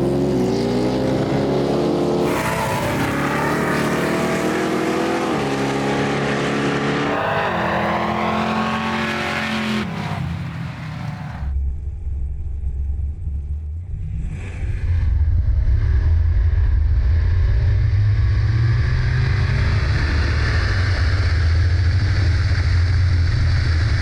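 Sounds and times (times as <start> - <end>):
drag car engine droning: 0.0 - 11.6, 15.7 - 24.0.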